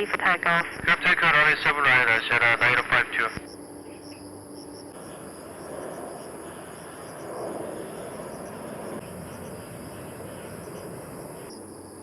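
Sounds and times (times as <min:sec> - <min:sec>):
distant jet engines: 0:00.0 - 0:12.0
insects trilling: 0:00.0 - 0:12.0.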